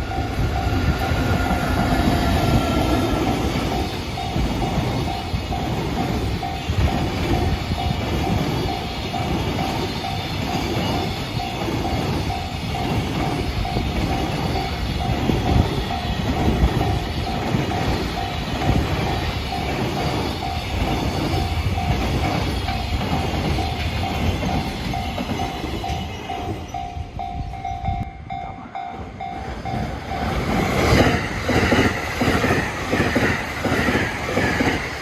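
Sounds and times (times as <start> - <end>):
crossing warning bell: 0.0 - 35.0
train rumble and wheel clatter: 0.0 - 35.0.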